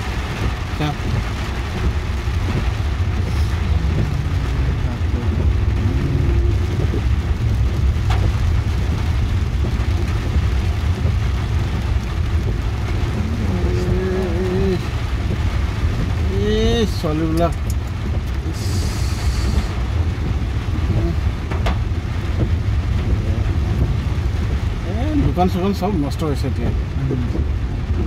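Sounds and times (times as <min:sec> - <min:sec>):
car driving rumble: 0:00.0 - 0:28.0
rain on windshield: 0:00.0 - 0:28.0.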